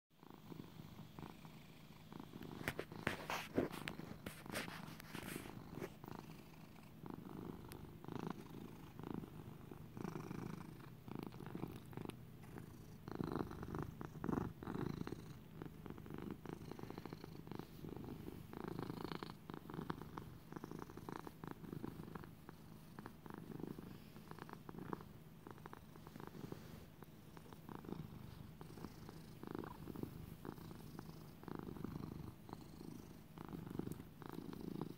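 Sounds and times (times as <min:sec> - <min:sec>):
cat purring: 0:00.2 - 0:34.9.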